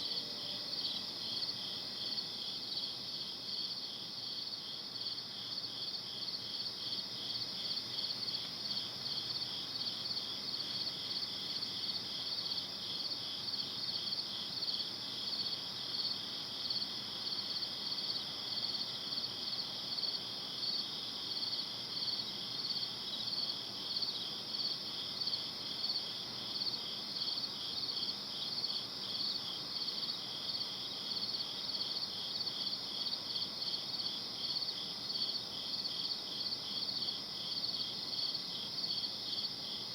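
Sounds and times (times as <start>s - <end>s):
crickets chirping: 0.0s - 39.9s
faint background hiss: 0.0s - 39.9s.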